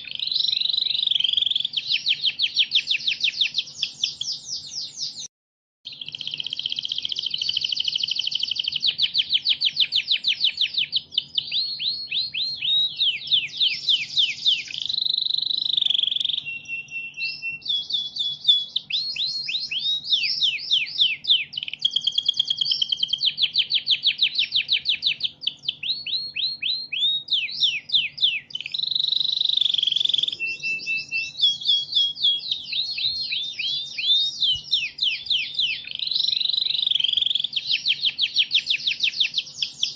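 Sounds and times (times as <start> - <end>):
canary singing trills: 0.0 - 5.3, 5.9 - 39.9.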